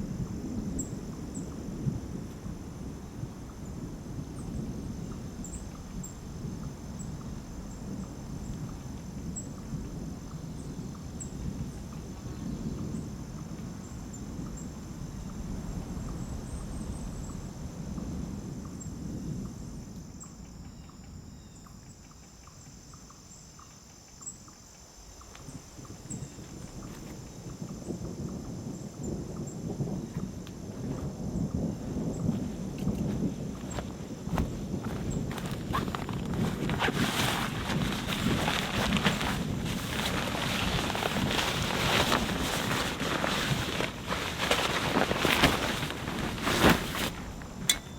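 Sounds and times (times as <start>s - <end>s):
wind gusting: 0.0s - 20.2s, 25.1s - 47.9s.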